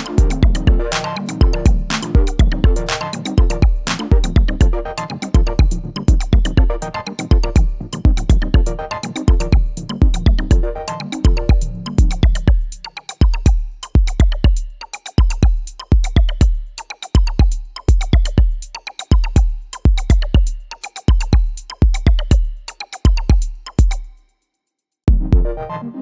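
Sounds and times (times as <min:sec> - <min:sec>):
electronic music with booming kick: 0:00.0 - 0:24.2, 0:25.1 - 0:25.7.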